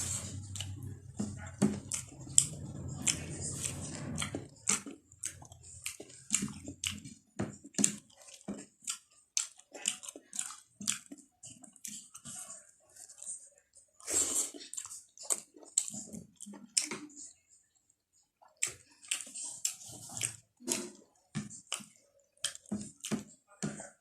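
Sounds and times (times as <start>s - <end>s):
chewing and lip smacking: 0.2s - 24.0s.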